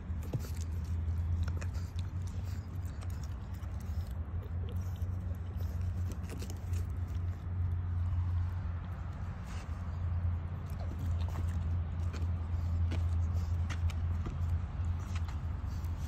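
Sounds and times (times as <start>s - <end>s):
puppy chewing on finger: 0.0s - 16.0s
small clicks and scuffs: 0.0s - 16.0s.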